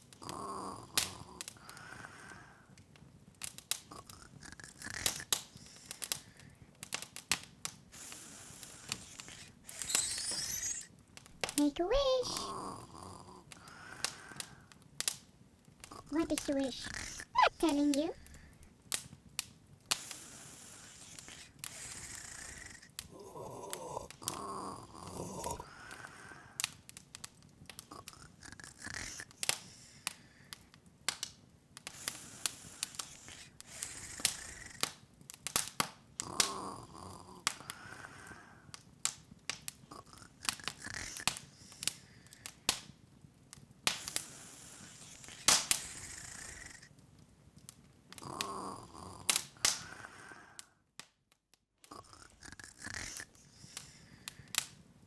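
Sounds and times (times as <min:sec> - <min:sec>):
wood fire crackling: 0:00.0 - 0:50.7, 0:52.6 - 0:55.0
fire hissing softly: 0:00.0 - 0:51.1, 0:51.8 - 0:55.0.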